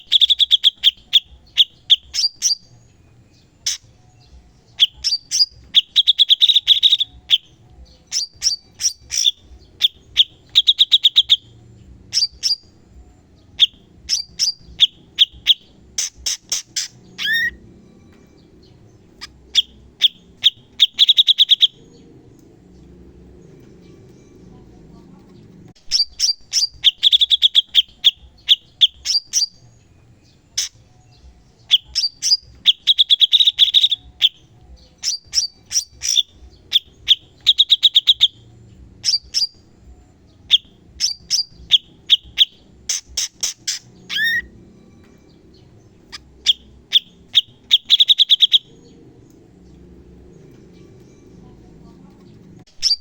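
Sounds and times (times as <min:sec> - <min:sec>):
bird singing rapid trills: 0:00.0 - 0:53.0.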